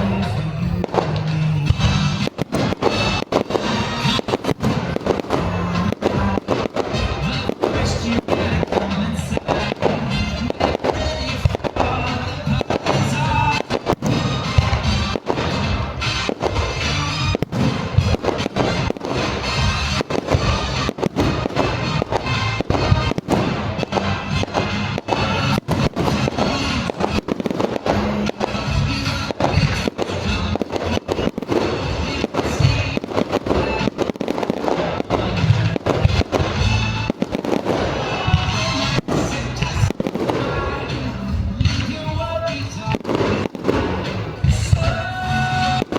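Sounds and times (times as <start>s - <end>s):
fireworks bursting: 0.0s - 45.9s
music playing: 0.0s - 45.9s.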